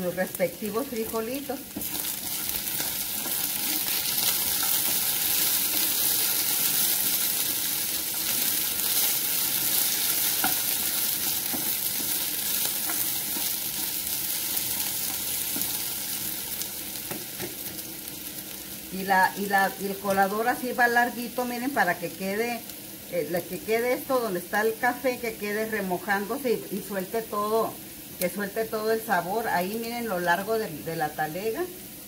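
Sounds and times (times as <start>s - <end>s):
potatoes sizzling in a skillet: 0.0s - 32.0s.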